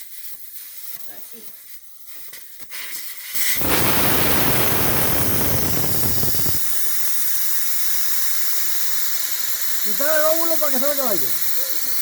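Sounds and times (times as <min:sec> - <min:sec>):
air hissing out of tyre valve: 0:00.0 - 0:12.0.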